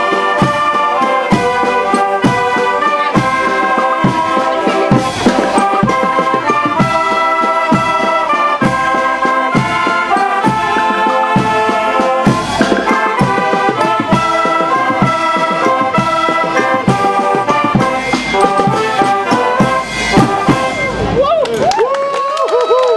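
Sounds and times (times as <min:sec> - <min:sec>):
shawm band playing chords: 0:00.0 - 0:21.3.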